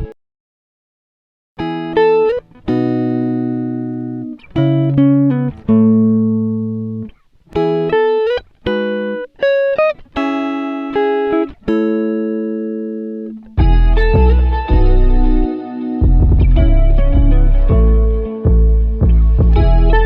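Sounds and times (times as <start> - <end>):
plucked guitar-like tune: 1.6 - 20.0.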